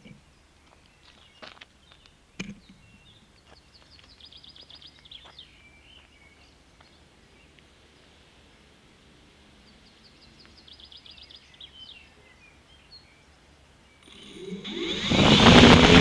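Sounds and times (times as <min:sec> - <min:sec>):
birds singing faintly: 0:00.0 - 0:15.0.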